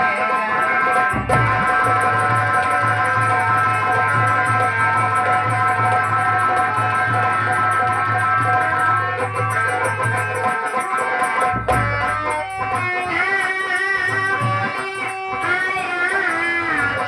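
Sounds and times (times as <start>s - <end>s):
plucked string melody: 0.0s - 17.0s
low drum beats: 1.1s - 10.8s, 11.4s - 15.8s.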